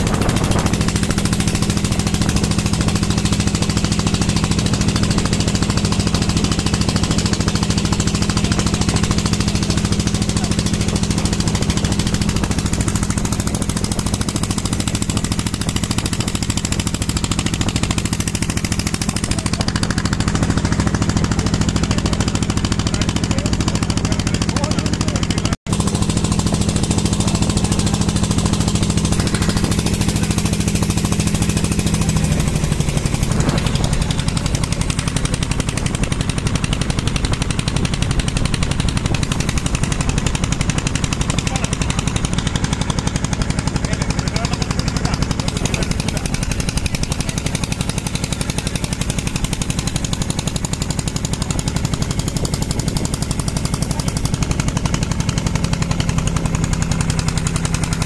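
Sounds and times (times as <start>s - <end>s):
boat engine knocking: 0.0s - 58.0s.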